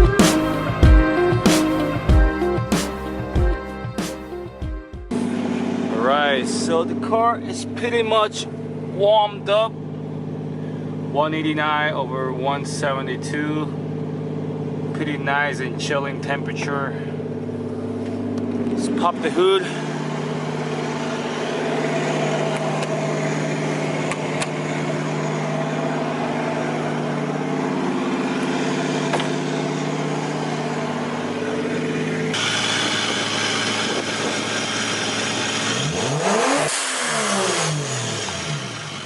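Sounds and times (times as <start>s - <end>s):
car engine idling: 5.1s - 39.0s.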